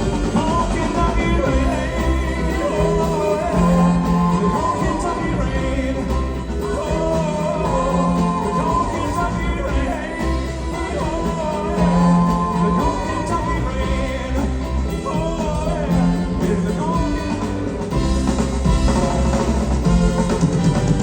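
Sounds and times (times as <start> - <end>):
live band playing rock ballad: 0.0 - 21.0.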